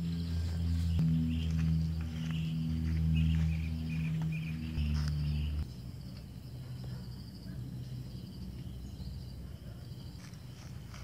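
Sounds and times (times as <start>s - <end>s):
low steady rumble: 0.0s - 9.9s
crickets chirping: 0.0s - 11.0s.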